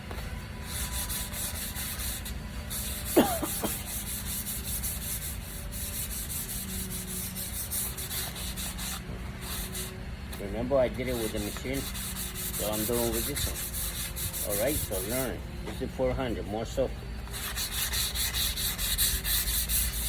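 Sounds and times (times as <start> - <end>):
sandpaper rubbing: 0.6 - 20.0.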